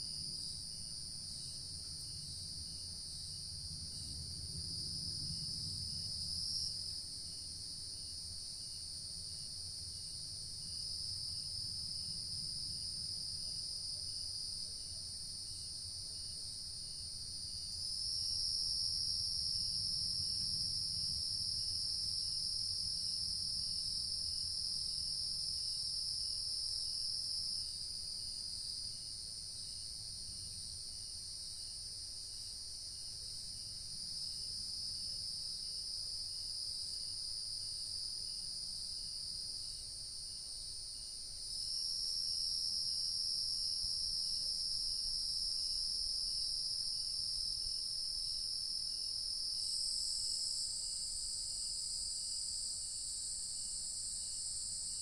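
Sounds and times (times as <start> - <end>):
faint insect chirp: 0.0 - 55.0.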